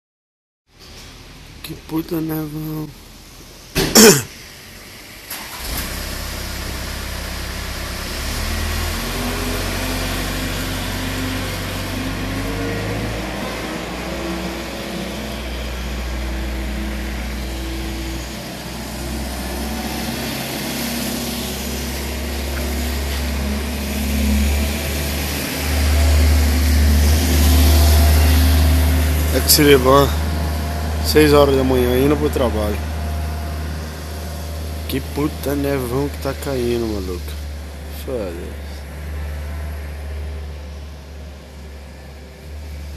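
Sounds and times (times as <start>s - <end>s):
vehicle engine humming: 0.8s - 42.9s.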